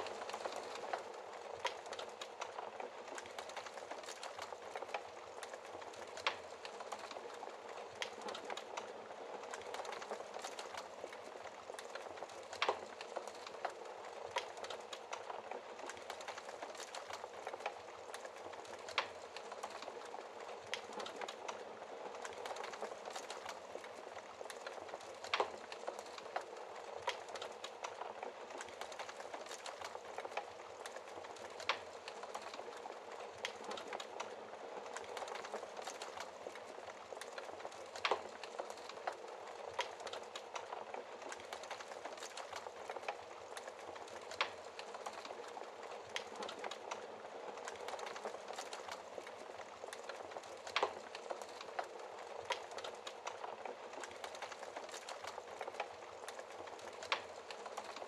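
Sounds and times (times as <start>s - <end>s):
logs crackling in fireplace: 0.0s - 58.0s.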